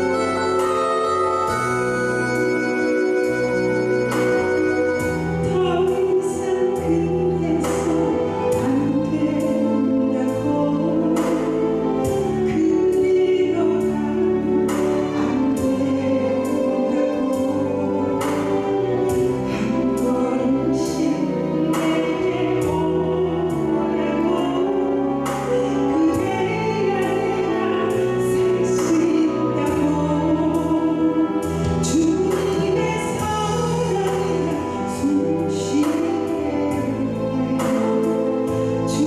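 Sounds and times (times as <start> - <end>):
backing music with steady beat: 0.0 - 39.0
woman singing into microphone: 0.0 - 39.0.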